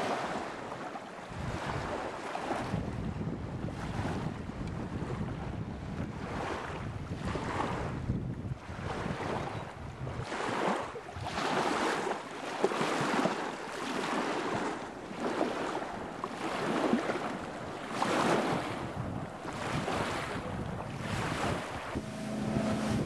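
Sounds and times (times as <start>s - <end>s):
river water lapping on shore: 0.0s - 23.0s.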